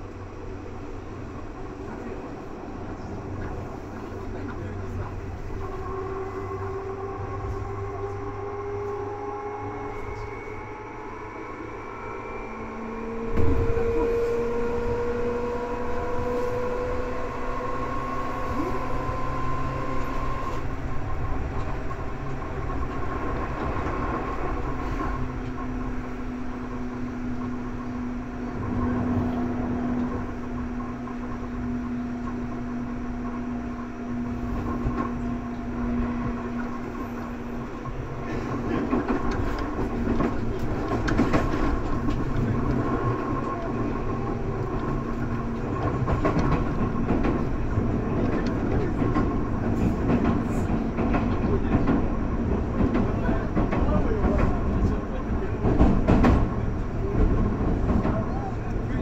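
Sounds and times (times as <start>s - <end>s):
wheels rumbling on rail: 0.0s - 59.0s
electric train motor whine: 4.6s - 59.0s
train jolt: 9.6s - 59.0s.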